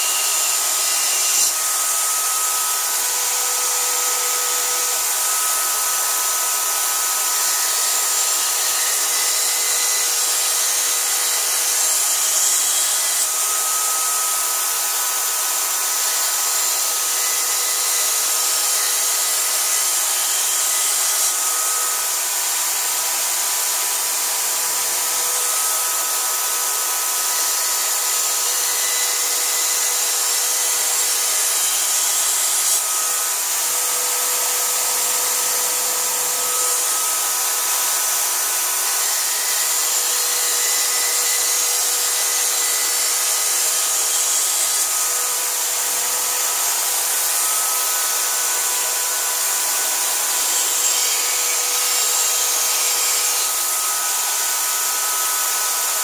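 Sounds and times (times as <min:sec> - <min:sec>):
grinding stone on steel blade: 0:00.0 - 0:26.3, 0:27.8 - 0:56.0
electric drill motor whine: 0:00.0 - 0:56.0.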